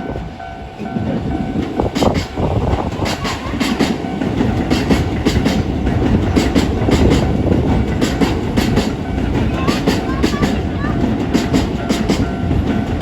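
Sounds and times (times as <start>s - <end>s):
electric train passing: 0.0s - 13.0s
wheels clacking over rail joints: 0.0s - 13.0s.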